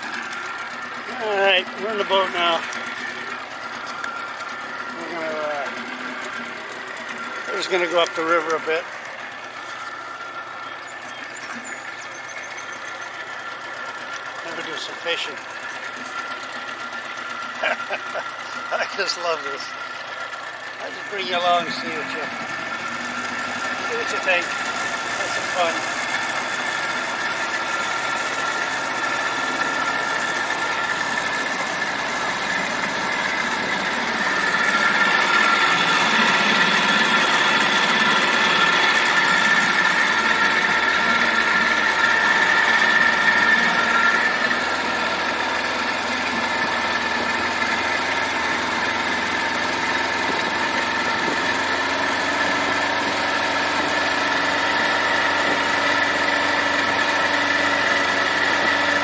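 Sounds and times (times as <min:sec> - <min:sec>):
boat motor running: 0:00.0 - 0:59.0.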